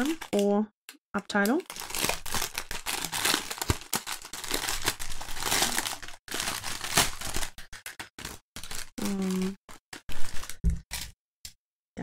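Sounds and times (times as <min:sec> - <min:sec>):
plastic bags crinkling: 0:00.0 - 0:00.5, 0:01.3 - 0:11.2.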